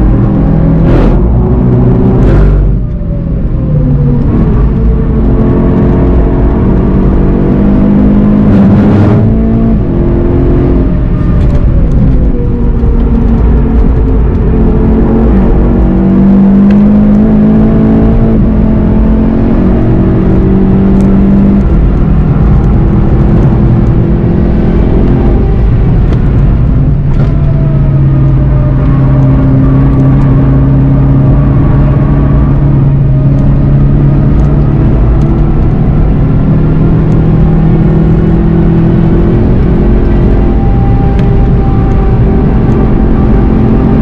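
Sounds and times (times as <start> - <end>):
car engine accelerating hard: 0.0 - 44.0
road and wind noise: 0.0 - 44.0.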